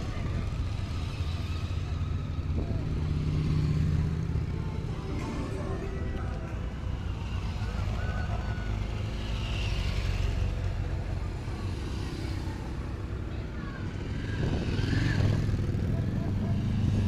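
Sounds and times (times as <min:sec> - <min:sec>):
motorcycles passing slowly: 0:00.0 - 0:17.0.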